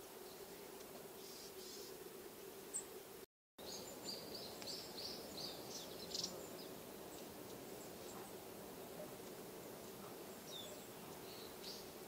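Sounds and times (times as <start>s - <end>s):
songbirds calling: 0.0s - 12.0s.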